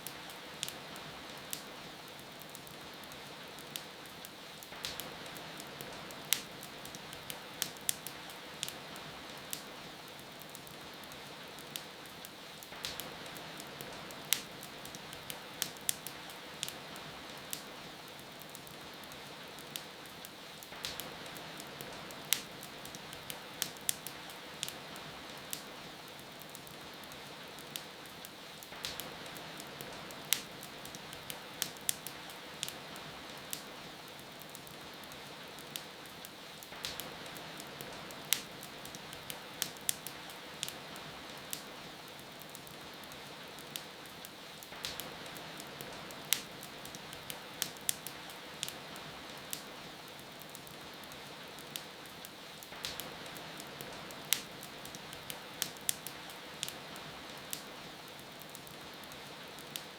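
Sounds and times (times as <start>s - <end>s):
rain falling: 0.0s - 59.9s
wood fire crackling: 0.0s - 59.9s.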